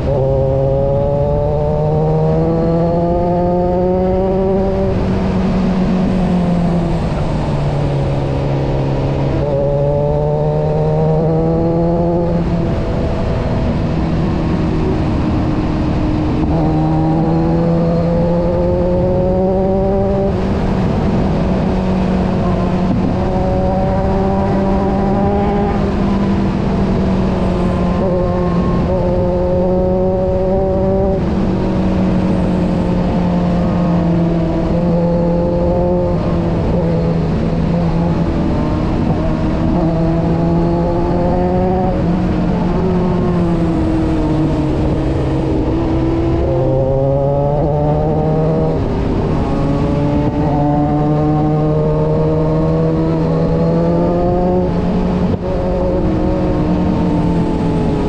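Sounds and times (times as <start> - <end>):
wind noise: 0.0 - 58.0.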